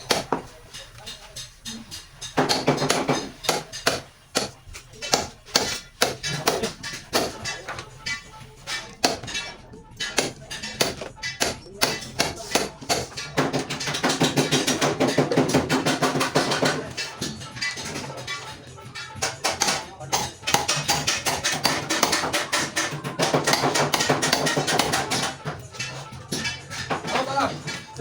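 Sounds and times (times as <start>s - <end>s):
sharp metallic knocks: 0.0s - 28.0s.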